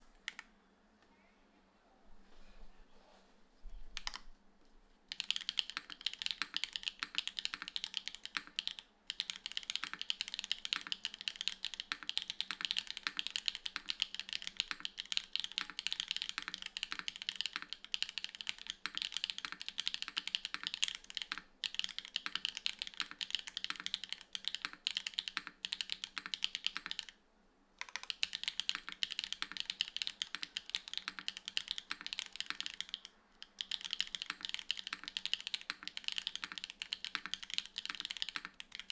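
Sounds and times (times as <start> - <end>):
fast mechanical keyboard typing: 4.0 - 4.2, 5.1 - 27.2, 27.8 - 38.9.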